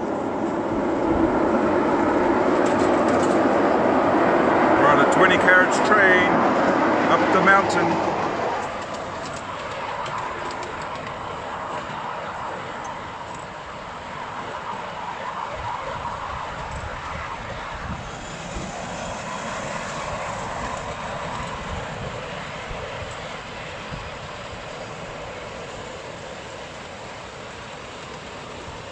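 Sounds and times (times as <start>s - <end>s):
carriages rolling over rails: 0.0s - 28.9s.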